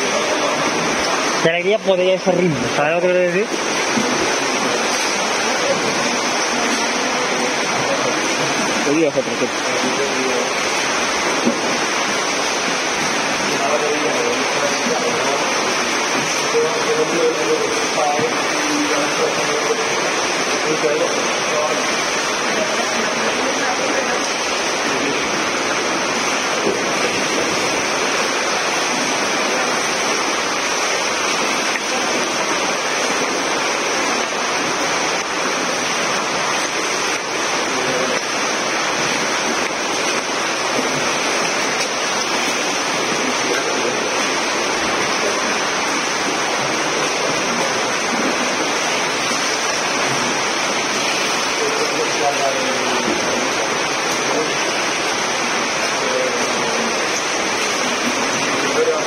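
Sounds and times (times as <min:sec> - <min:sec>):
swimmers splashing water: 0:00.0 - 0:59.0.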